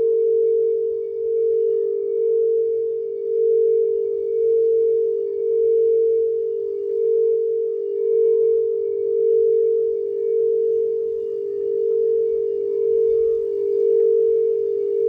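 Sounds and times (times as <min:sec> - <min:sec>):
singing bowl sustained tone: 0:00.0 - 0:15.0.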